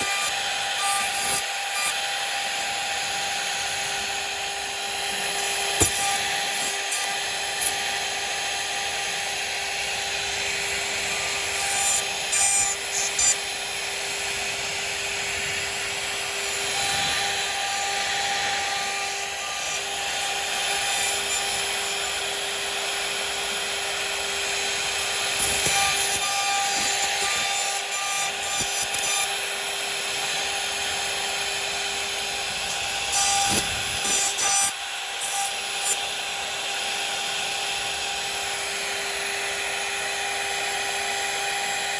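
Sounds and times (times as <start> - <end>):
bit cutting into wood: 0.0 - 41.9
router spindle whining: 0.0 - 41.9.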